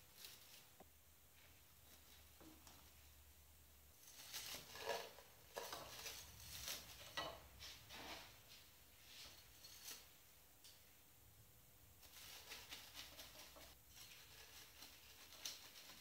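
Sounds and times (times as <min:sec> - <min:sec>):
rustling crackling scrapes: 0:00.0 - 0:03.1, 0:03.9 - 0:10.2, 0:12.0 - 0:16.0.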